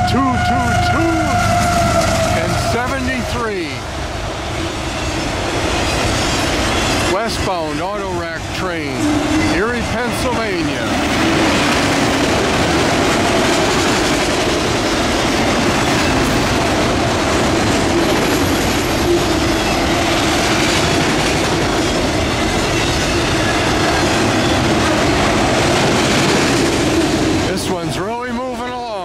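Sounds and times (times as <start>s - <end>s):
freight cars rumbling and rattling: 0.0s - 29.0s
wheels ringing on rails: 4.4s - 29.0s.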